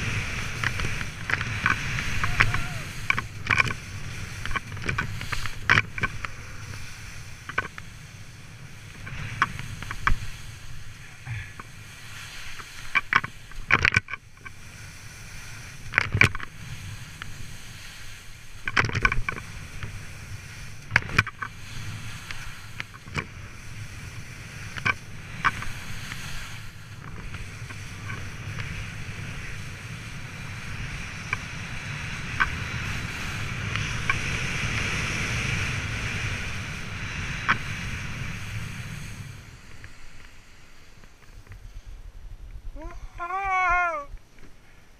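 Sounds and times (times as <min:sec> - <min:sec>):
skis scraping over snow: 0:00.0 - 0:42.2.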